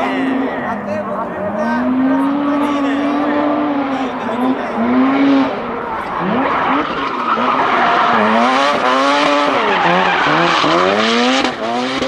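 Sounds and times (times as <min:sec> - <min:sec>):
car engine revving: 0:00.0 - 0:12.0
tyres screeching: 0:00.0 - 0:12.0.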